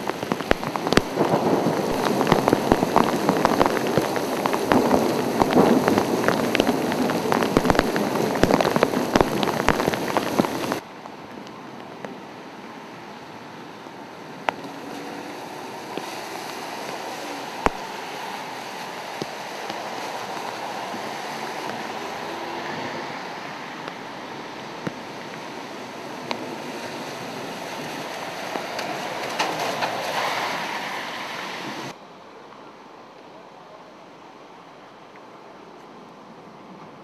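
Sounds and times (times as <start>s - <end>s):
car tyres hissing on wet street: 0.0s - 32.0s
steady rain: 0.0s - 37.0s.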